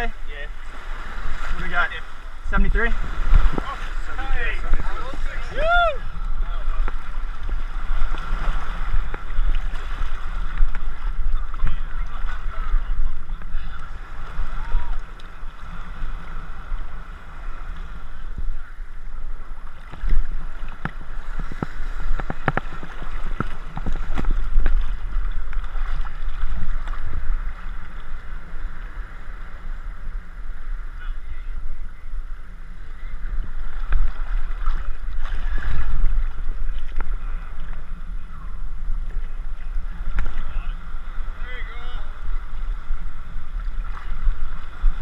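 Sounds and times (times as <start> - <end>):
low rumble of wind: 0.0 - 45.0
water sloshing and splashing: 0.3 - 29.6, 33.2 - 45.0.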